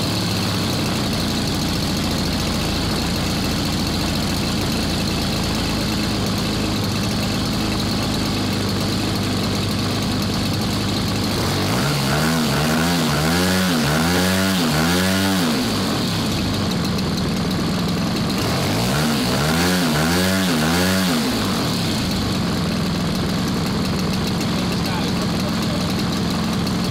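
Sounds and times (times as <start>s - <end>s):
model aircraft engine revving: 0.0s - 26.9s.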